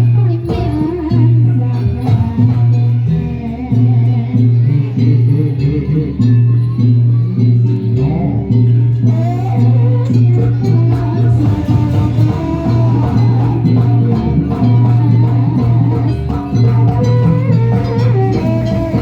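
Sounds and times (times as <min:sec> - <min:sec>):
live ensemble music: 0:00.0 - 0:19.0.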